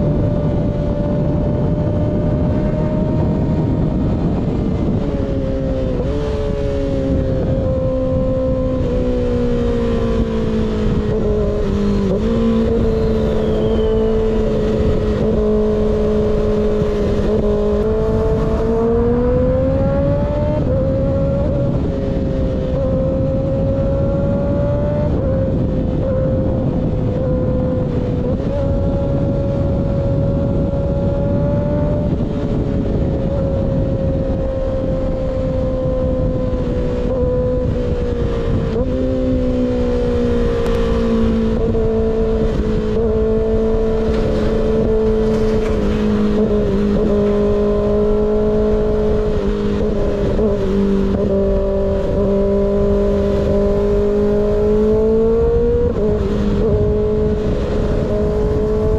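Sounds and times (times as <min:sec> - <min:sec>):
motorcycle engine at high revs: 0:00.0 - 0:58.9
wind rumble on microphone: 0:00.0 - 0:58.9.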